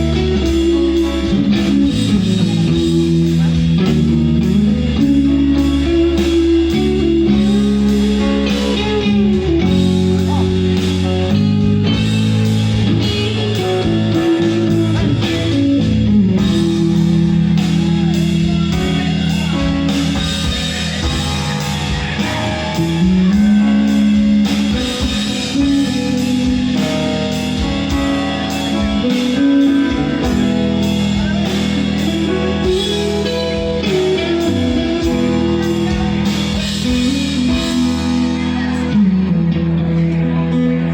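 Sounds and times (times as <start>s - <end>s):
rock band music: 0.0s - 40.9s.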